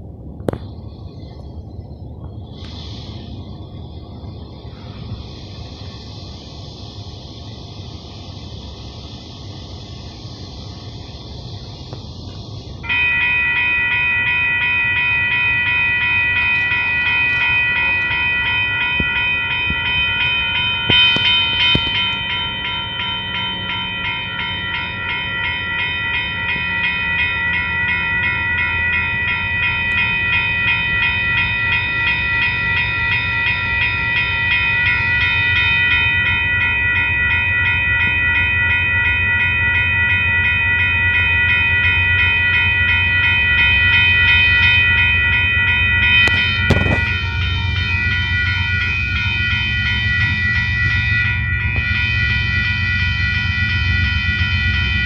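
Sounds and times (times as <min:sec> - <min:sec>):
railroad crossing bell ringing: 0:00.0 - 0:55.0
train rumble: 0:00.0 - 0:55.0.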